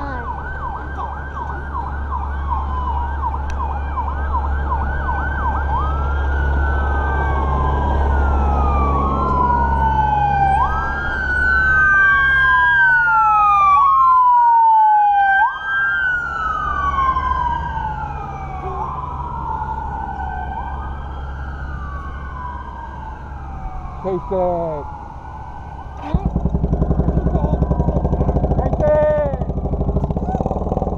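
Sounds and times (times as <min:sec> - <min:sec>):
emergency vehicle siren: 0:00.0 - 0:30.9.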